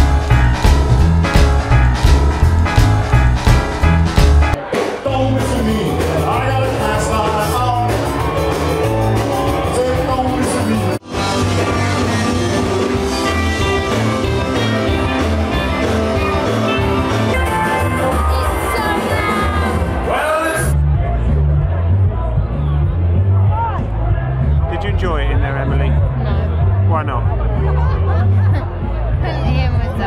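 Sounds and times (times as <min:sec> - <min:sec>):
rock and roll music with singing: 0:00.0 - 0:24.8.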